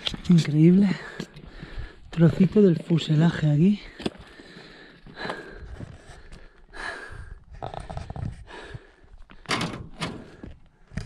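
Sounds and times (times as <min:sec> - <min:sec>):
footsteps on stony ground: 0:00.0 - 0:07.0, 0:08.1 - 0:11.0.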